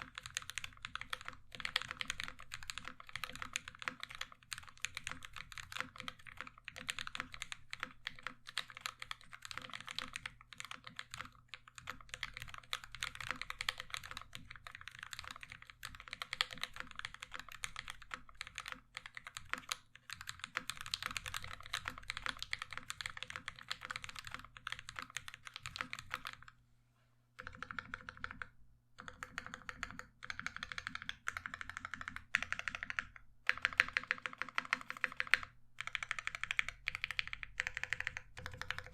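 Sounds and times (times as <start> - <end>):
typing on mechanical keyboard: 0.0 - 26.5, 27.4 - 38.9.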